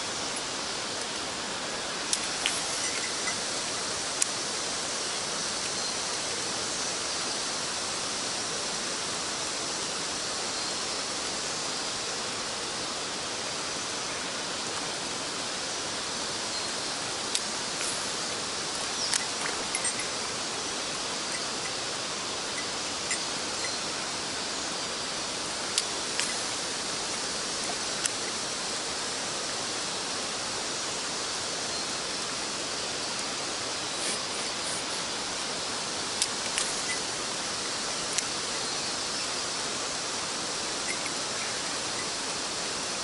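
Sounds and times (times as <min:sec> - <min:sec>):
stream water rushing: 0:00.0 - 0:43.0.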